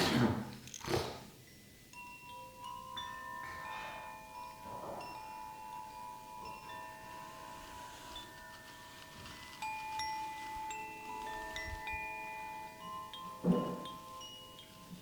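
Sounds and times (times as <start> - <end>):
metal chimes ringing softly: 1.4 - 8.9, 9.5 - 15.0.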